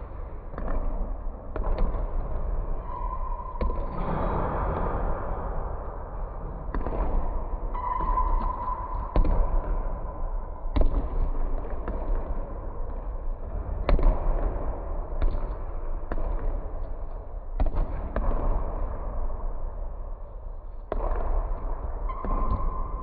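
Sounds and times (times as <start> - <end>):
basketballs bouncing on wooden floor: 0.0 - 5.0, 6.5 - 19.0, 20.9 - 23.0.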